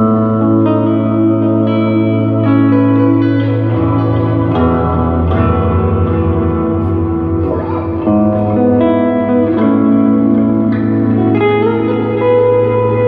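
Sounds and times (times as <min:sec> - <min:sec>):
ambient guitar notes: 0:00.0 - 0:13.0
held low guitar note: 0:00.0 - 0:13.0.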